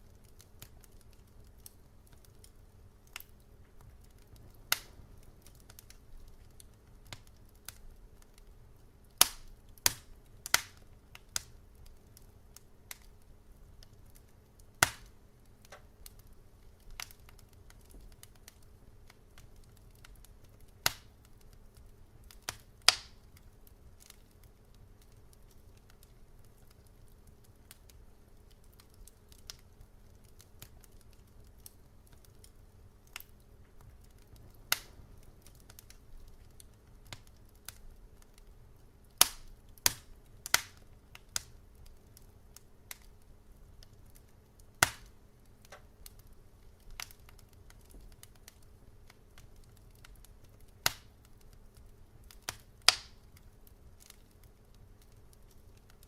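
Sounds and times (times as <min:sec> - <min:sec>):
fire popping: 0:00.0 - 0:56.0
low fire rumble: 0:00.0 - 0:56.0
wood fire crackling: 0:00.0 - 0:56.0.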